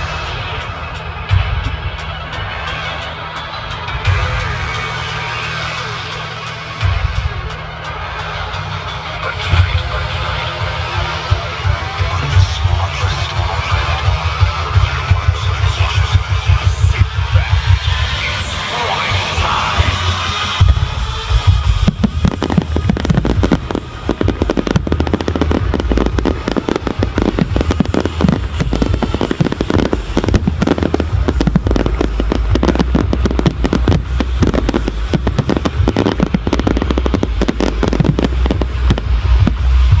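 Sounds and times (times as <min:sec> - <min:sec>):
fireworks bangs and crackles: 0:00.0 - 0:40.0
low rumble: 0:00.0 - 0:40.0.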